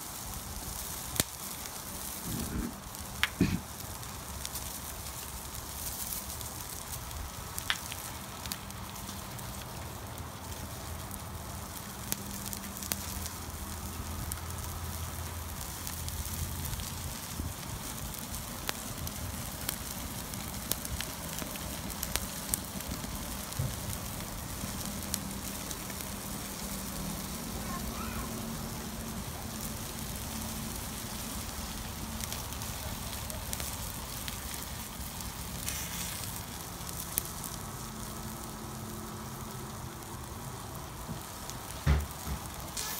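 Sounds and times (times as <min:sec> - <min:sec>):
chicken sizzling on grill: 0:00.0 - 0:42.9
open fire crackling and popping: 0:00.0 - 0:42.9.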